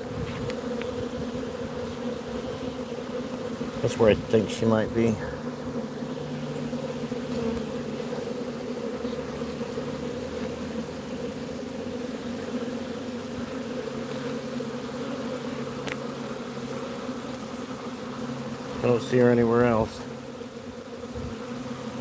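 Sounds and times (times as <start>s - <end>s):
honeybee swarm buzzing: 0.0s - 22.0s.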